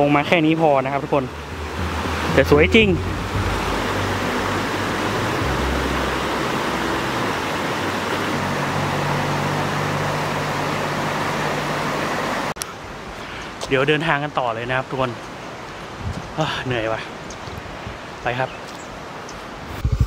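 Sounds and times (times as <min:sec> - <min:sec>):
stream rushing over rocks: 0:00.0 - 0:19.7.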